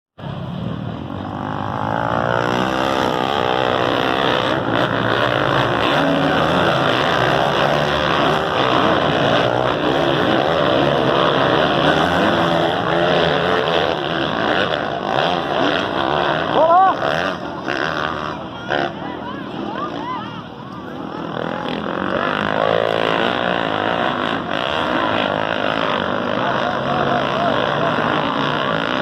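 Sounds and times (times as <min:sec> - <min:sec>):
motocross bike engines revving: 0:00.2 - 0:29.0.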